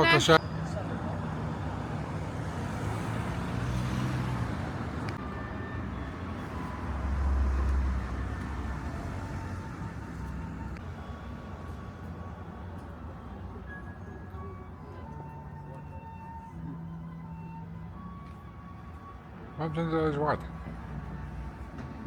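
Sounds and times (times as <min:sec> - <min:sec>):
motor vehicle rumble: 0:00.0 - 0:19.6, 0:20.4 - 0:22.0.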